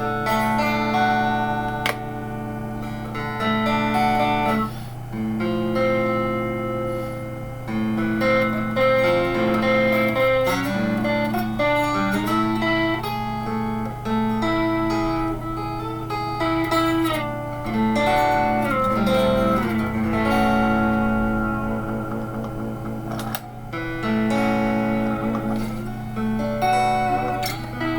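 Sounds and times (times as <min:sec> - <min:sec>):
electric guitar through amplifier: 0:00.0 - 0:27.9
steady low hum: 0:00.0 - 0:27.9.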